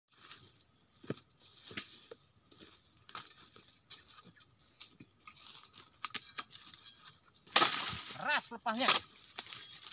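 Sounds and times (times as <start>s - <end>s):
footsteps on dry leaves: 0.1s - 9.9s
insect drone: 0.1s - 9.9s.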